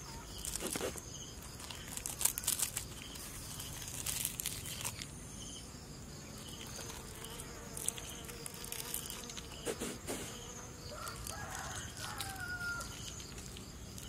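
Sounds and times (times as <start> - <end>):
crackling and rustling skin: 0.0 - 5.2, 6.4 - 14.0
insect buzzing: 0.0 - 14.0.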